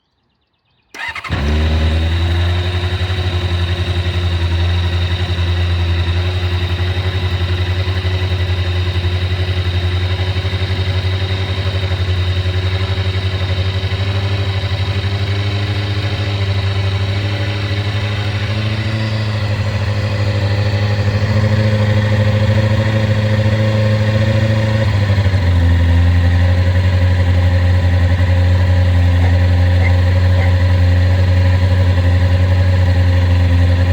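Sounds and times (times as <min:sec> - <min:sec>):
motorcycle engine starting and idling: 0:00.9 - 0:33.9.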